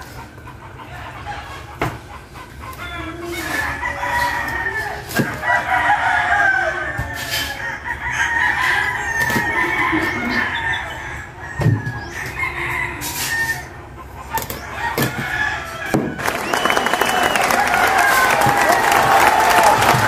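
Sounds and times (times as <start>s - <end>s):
chickens clucking: 0.0s - 16.3s
rooster crowing: 2.8s - 13.8s, 14.4s - 20.0s.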